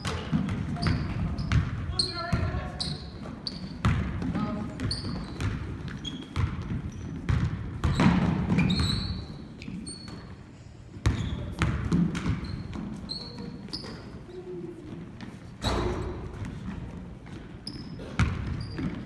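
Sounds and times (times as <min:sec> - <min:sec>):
basketballs bouncing on wooden floor: 0:00.0 - 0:14.2, 0:14.9 - 0:19.0
sneakers squeaking: 0:00.0 - 0:19.0.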